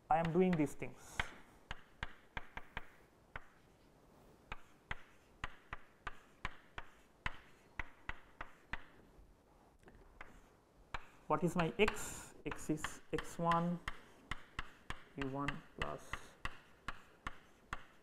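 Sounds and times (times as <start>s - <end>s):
chalk tapping on blackboard: 0.1s - 3.7s, 4.5s - 9.0s, 10.1s - 18.0s.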